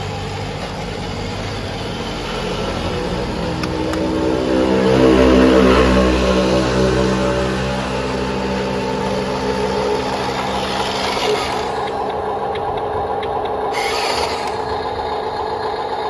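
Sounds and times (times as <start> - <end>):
toy truck motor and gears: 0.0 - 5.0, 6.5 - 16.0.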